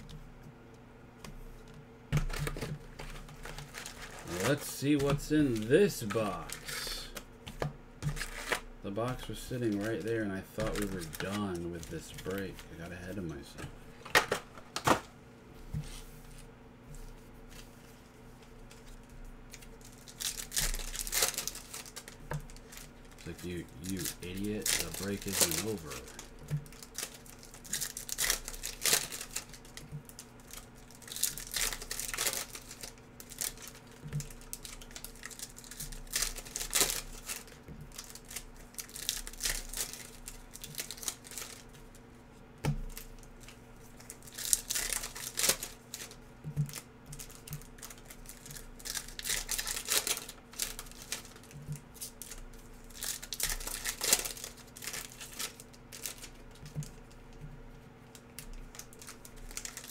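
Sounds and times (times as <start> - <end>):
wrappers tearing and crinkling: 2.2 - 7.2, 8.0 - 14.5, 18.6 - 42.0, 42.8 - 57.5, 58.1 - 59.9.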